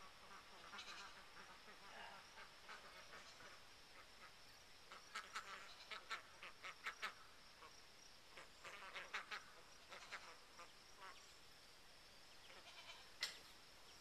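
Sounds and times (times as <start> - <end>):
ducks quacking: 0.0 - 11.2.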